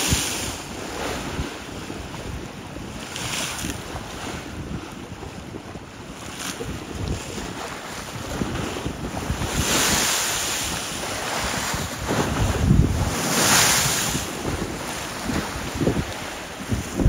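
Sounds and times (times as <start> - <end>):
waves washing and breaking: 0.0 - 17.0
wind buffeting microphone: 0.0 - 17.0.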